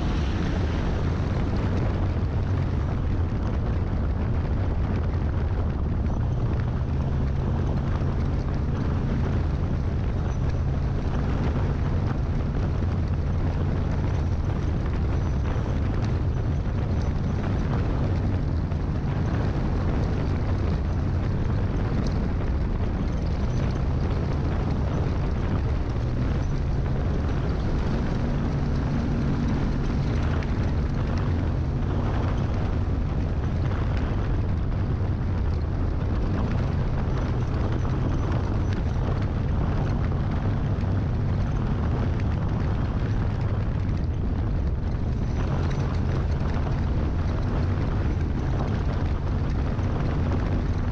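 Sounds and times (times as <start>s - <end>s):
road rumble: 0.0s - 50.9s
truck engine running at speed: 0.0s - 50.9s
wind on microphone: 0.0s - 50.9s.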